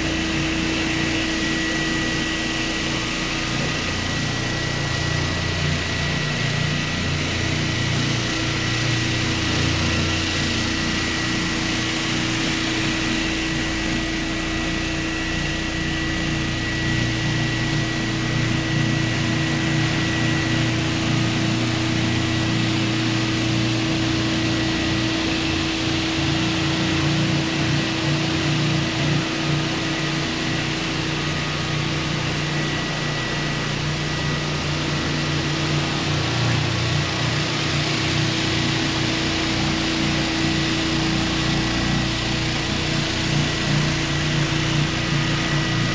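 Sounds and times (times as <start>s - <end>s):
floor sanding machine running: 0.0s - 45.9s.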